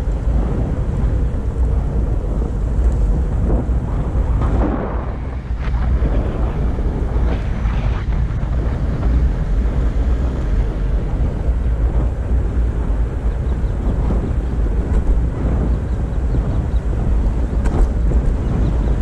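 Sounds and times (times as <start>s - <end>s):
steady low rumble: 0.0s - 19.0s
wind buffeting microphone: 0.0s - 19.0s.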